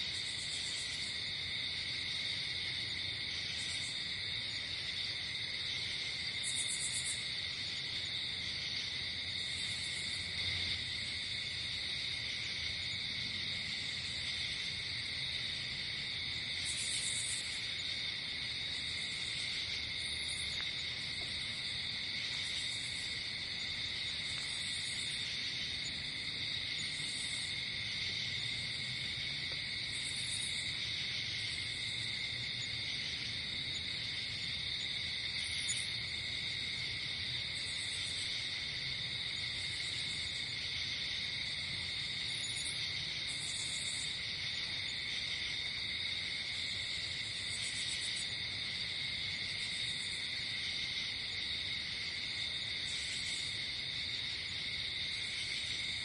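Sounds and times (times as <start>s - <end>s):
crickets trilling: 0.0s - 56.0s
insects chirping: 0.0s - 56.0s.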